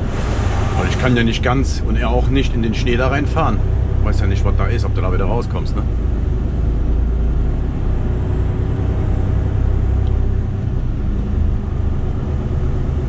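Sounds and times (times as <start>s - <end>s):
diesel engine drone: 0.0s - 13.0s
road noise: 0.0s - 13.0s.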